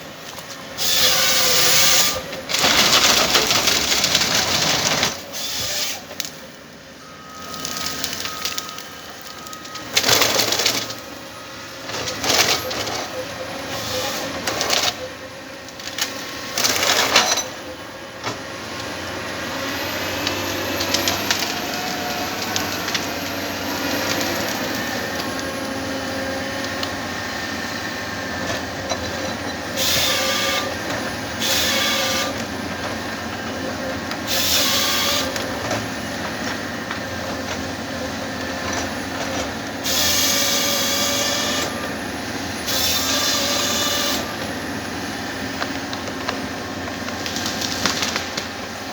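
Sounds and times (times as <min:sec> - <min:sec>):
harvester engine and hydraulics: 0:00.0 - 0:48.9.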